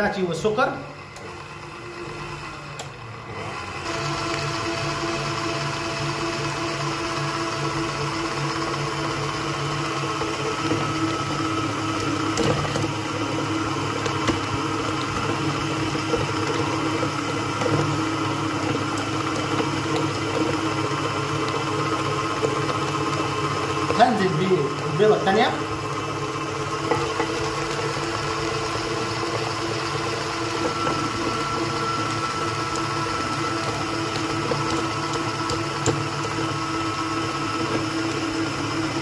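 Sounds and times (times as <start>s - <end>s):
stand mixer motor humming: 0.0s - 39.0s.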